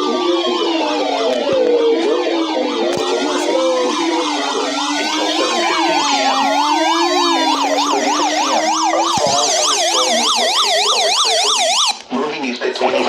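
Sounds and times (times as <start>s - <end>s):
electronic sirens wailing and yelping: 0.0s - 12.1s.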